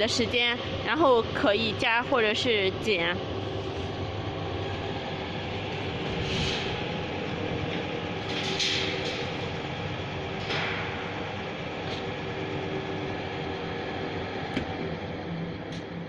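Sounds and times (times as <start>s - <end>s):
centrifuge motor hum and rumble: 0.0s - 16.0s.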